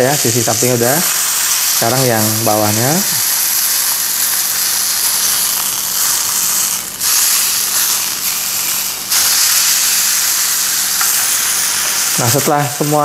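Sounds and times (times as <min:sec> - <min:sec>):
steak sizzling in a frying pan: 0:00.0 - 0:13.0.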